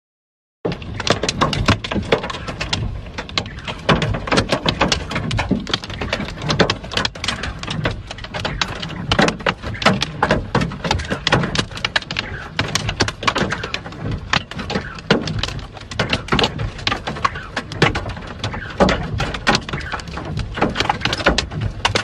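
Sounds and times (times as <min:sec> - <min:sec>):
hailstones clattering on hard surfaces: 0:00.7 - 0:22.0.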